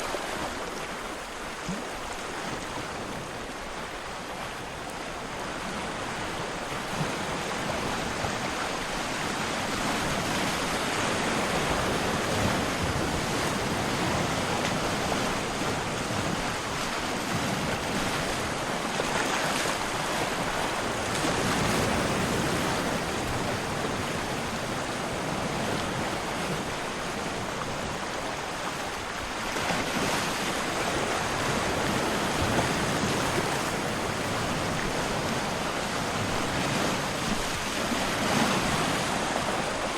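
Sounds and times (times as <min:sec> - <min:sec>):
ocean waves rushing: 0:00.0 - 0:39.9.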